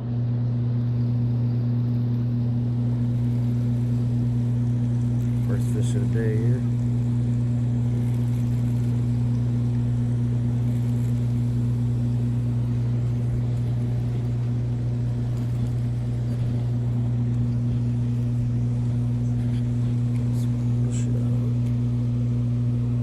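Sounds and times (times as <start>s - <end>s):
turbines humming: 0.0s - 23.0s.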